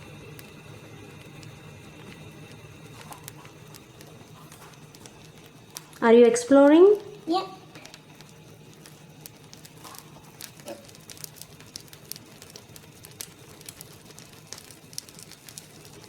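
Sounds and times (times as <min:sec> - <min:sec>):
batter cooking on a griddle: 0:00.0 - 0:16.0
faint crackles and pops: 0:00.0 - 0:16.0
steady low hum: 0:00.0 - 0:16.0.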